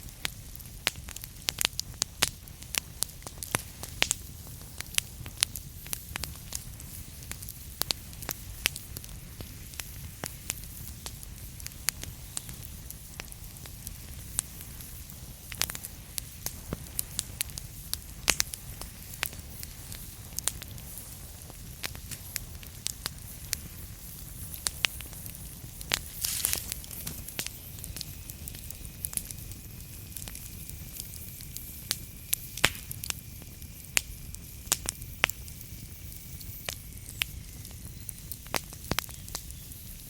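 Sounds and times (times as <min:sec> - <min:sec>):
logs crackling and popping: 0:00.0 - 0:40.0
low rumble of flames: 0:00.0 - 0:40.0.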